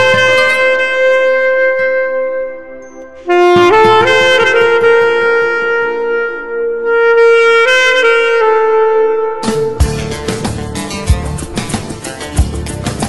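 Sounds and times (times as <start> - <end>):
wind instrument playing held notes: 0.0 - 12.3.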